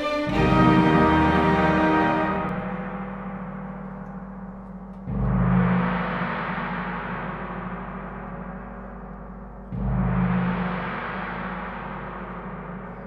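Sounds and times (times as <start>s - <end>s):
large gong struck: 0.4s - 13.0s.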